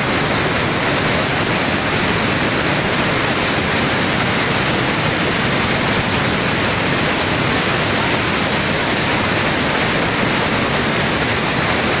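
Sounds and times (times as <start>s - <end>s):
floodwater roaring: 0.0s - 12.0s.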